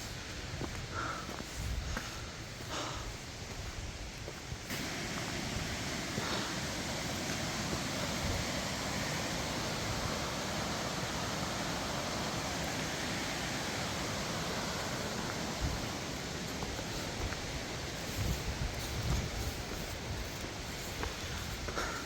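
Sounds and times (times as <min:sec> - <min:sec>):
stream water rushing: 0:02.0 - 0:22.0.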